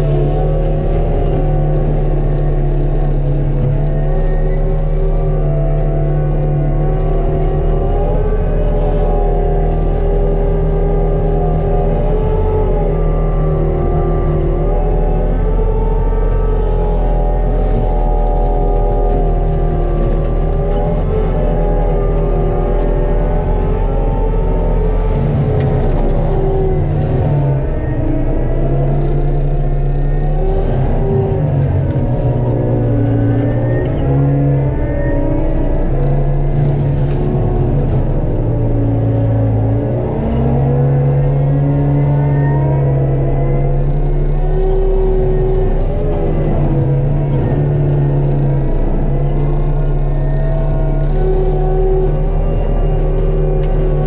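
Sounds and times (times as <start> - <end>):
diesel mulching machine running: 0.0 - 54.0.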